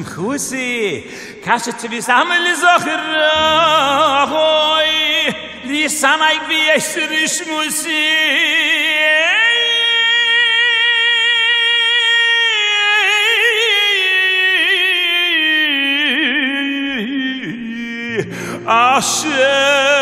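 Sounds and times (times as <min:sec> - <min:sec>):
man singing with vibrato: 0:00.0 - 0:20.0.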